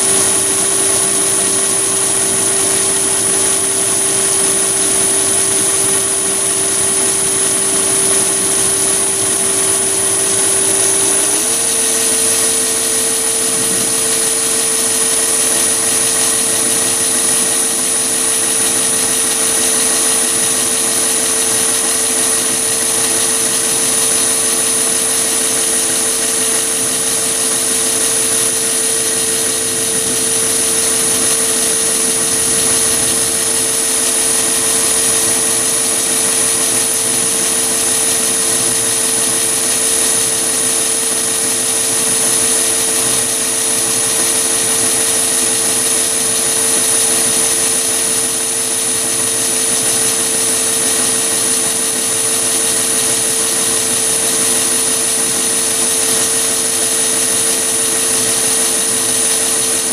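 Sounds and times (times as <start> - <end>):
end mill cutting metal: 0.0 - 59.9
lathe whining: 0.0 - 59.9.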